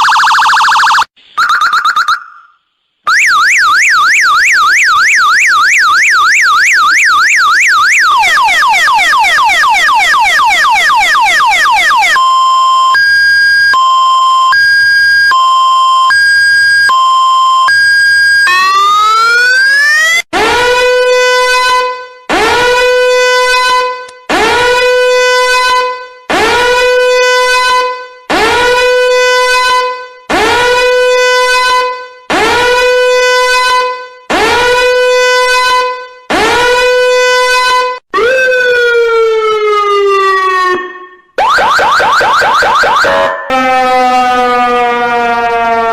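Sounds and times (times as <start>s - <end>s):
electronic emergency siren: 0.0s - 45.9s.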